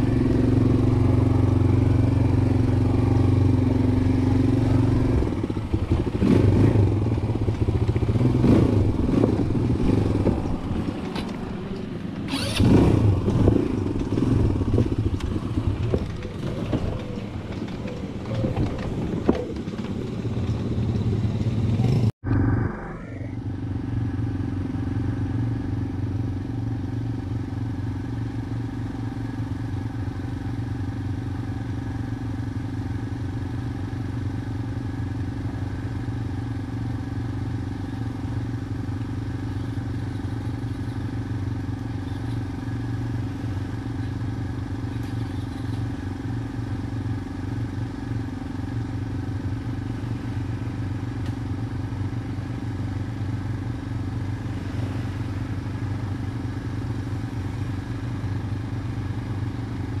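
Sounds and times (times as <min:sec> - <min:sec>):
atv engine idling: 0:00.0 - 0:22.1, 0:23.4 - 1:00.0.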